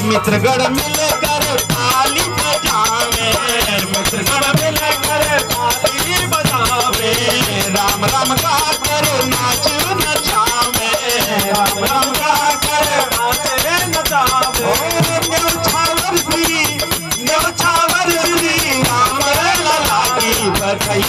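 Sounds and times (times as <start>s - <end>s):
shaker and rattle rhythm: 0.0s - 21.0s.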